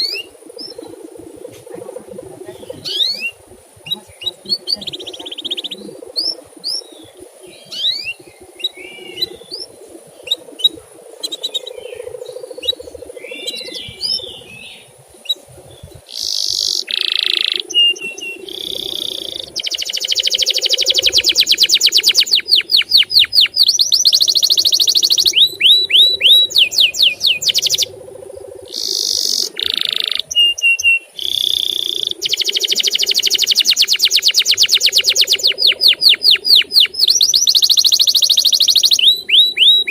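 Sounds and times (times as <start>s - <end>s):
canary singing: 1.8s - 39.9s.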